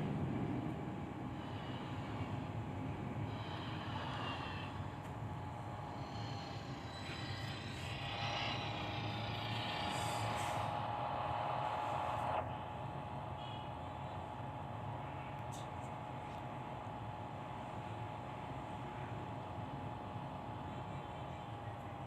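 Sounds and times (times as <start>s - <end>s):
road noise: 0.0s - 22.0s
truck engine hum: 0.0s - 22.0s.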